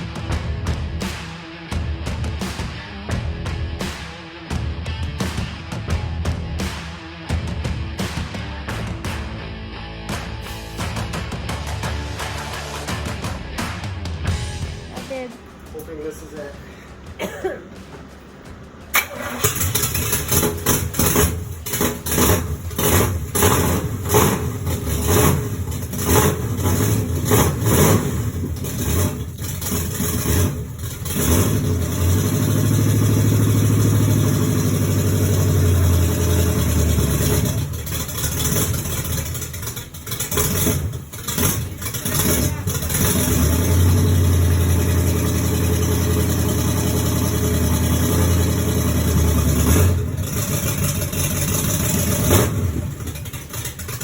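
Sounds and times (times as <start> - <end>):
engine starting and running unevenly: 0.0 - 54.0.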